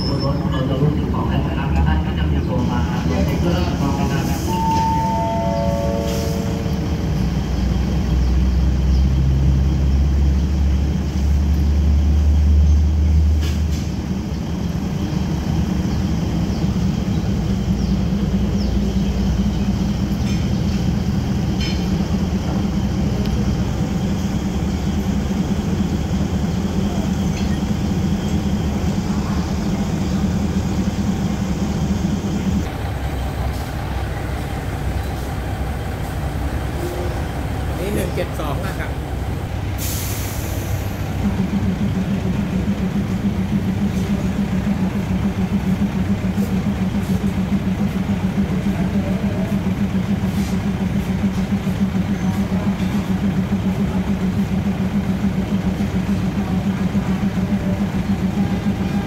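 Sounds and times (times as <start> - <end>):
diesel train engine idling: 0.0 - 59.0.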